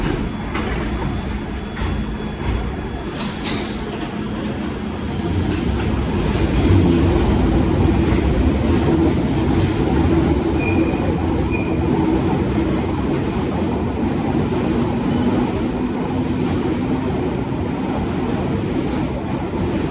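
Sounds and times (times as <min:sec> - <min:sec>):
high train squeals: 0:00.0 - 0:19.6
underground train rumbling on rails: 0:00.0 - 0:19.9.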